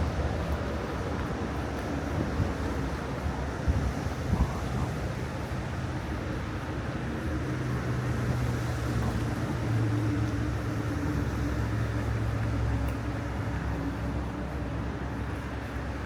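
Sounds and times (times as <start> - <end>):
city noise: 0.0 - 16.0.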